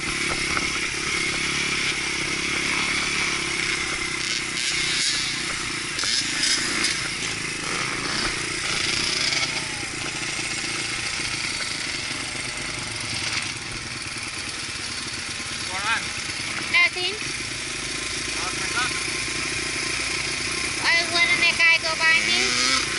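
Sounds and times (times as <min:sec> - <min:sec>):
wind and ride noise: 0:00.0 - 0:20.0
dirt bike engine running: 0:00.0 - 0:22.9.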